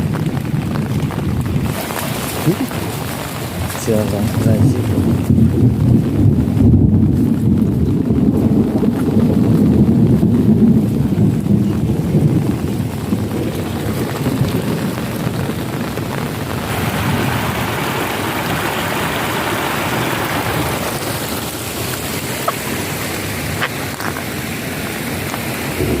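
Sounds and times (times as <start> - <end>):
heavy rain pouring: 0.0 - 26.0
wind rumble on microphone: 0.0 - 26.0.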